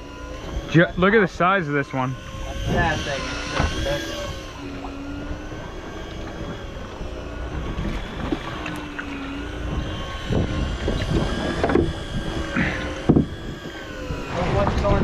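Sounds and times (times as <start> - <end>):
boat motor humming: 0.0 - 15.0
wind buffeting microphone: 0.4 - 15.0.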